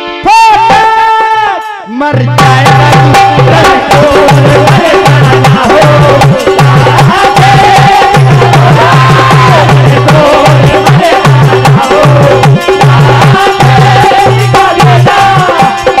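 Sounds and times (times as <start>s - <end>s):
harmonium melody: 0.0s - 16.0s
dholak drum beat: 0.3s - 16.0s.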